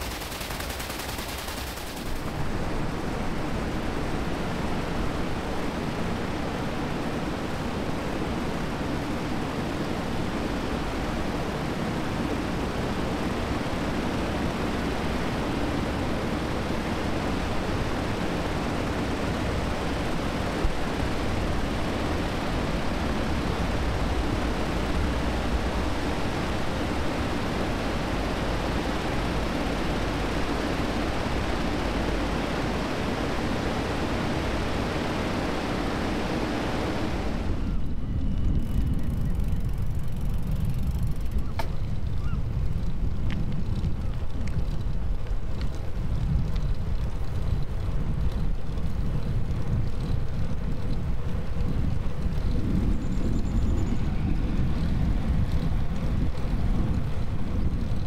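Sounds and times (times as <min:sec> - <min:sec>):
wind buffeting microphone: 0:10.2 - 0:58.0.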